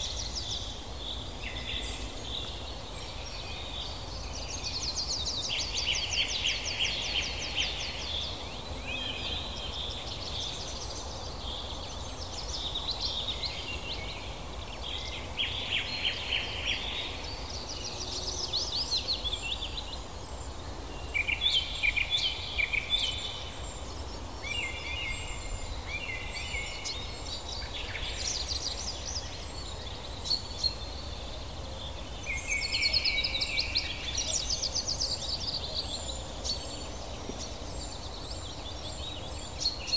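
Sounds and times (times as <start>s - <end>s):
low background noise: 0.0s - 39.9s
songbirds singing: 0.0s - 39.9s.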